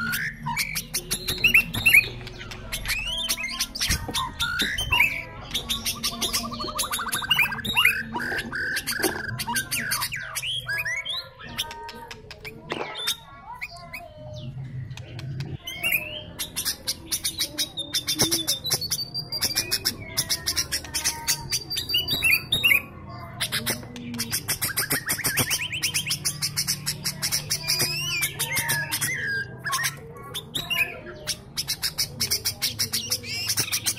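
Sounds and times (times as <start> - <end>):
bulbul singing: 0.0 - 33.9.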